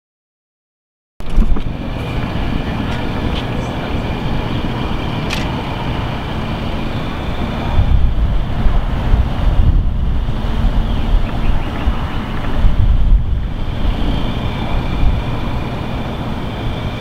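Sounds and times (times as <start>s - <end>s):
wind buffeting microphone: 1.2s - 17.0s.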